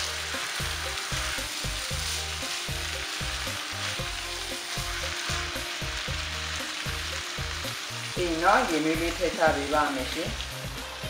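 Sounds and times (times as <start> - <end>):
background music: 0.0 - 11.0
chickpeas sizzling in oil: 0.0 - 11.0
spatula scraping wok: 0.0 - 11.0.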